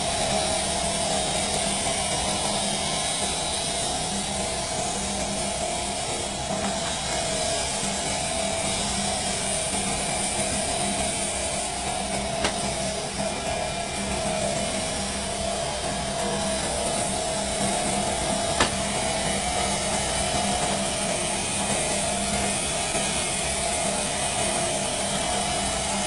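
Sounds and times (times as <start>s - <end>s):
air compressor whining: 0.0s - 26.0s.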